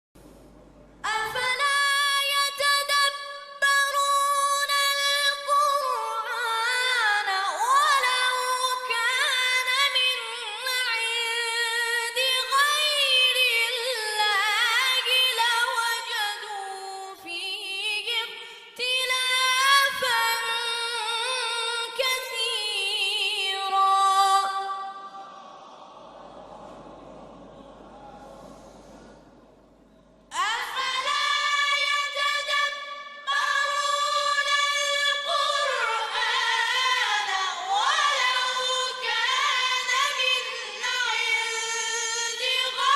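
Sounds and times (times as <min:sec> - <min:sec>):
woman singing: 0:01.0 - 0:25.1, 0:30.3 - 0:42.9.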